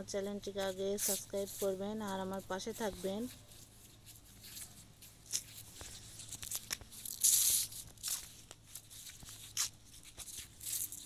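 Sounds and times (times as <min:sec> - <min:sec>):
scratchy rustling and scraping: 0:00.0 - 0:11.0.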